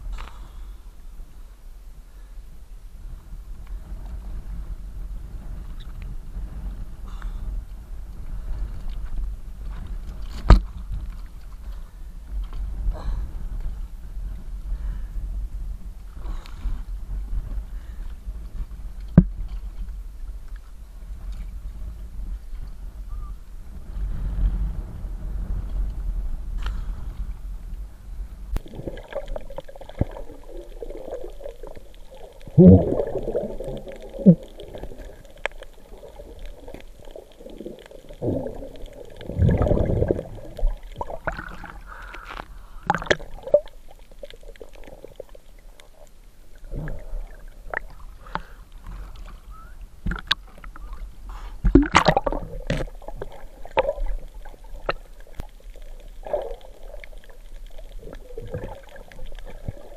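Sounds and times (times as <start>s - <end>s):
underwater gurgling and sloshing: 0.0s - 59.9s.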